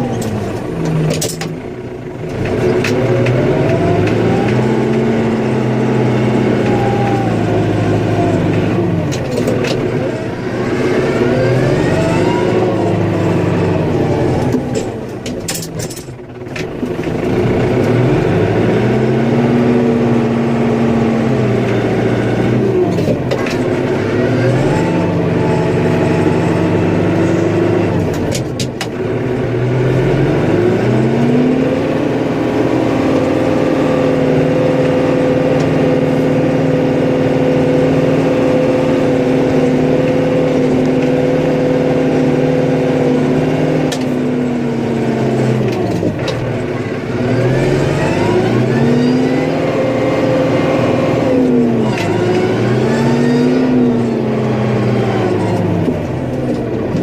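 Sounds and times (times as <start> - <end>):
vehicle engine revving: 0.0 - 57.0.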